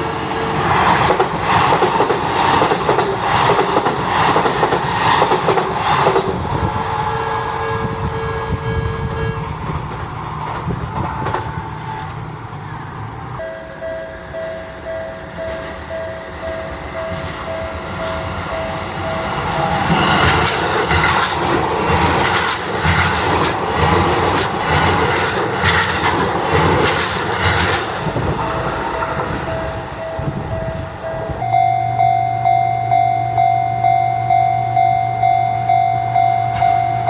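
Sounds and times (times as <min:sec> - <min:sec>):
level crossing warning bell: 0:00.0 - 0:09.9, 0:11.6 - 0:26.9, 0:27.5 - 0:37.0
train wheels clacking on rail joints: 0:00.0 - 0:31.5.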